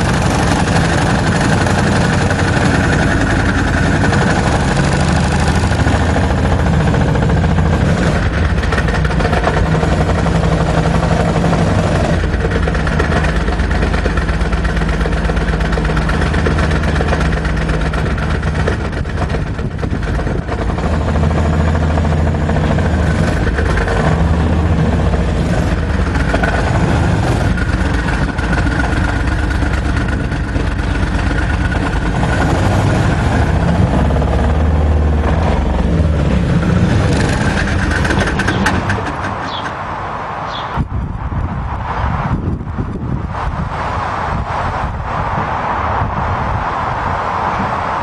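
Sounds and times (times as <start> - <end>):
tracked vehicle engine running: 0.0 - 48.0.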